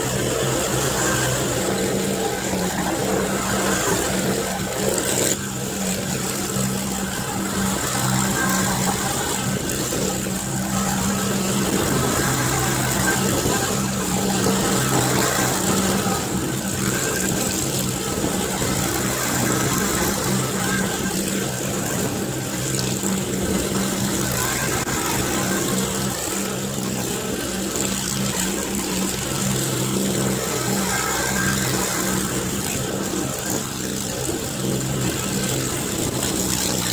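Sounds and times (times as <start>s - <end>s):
engine humming inside vehicle cabin: 0.0s - 36.9s.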